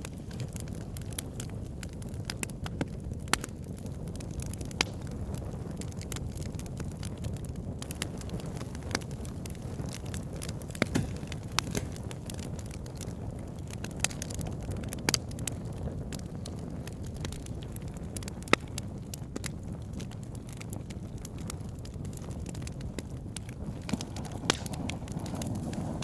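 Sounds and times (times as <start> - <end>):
burning logs crackling and popping: 0.0 - 26.0
campfire flames rushing: 0.0 - 26.0.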